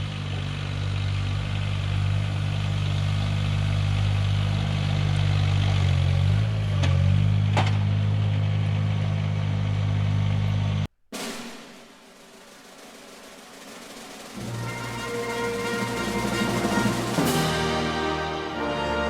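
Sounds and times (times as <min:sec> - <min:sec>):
engine running: 0:00.0 - 0:10.9, 0:14.4 - 0:19.0.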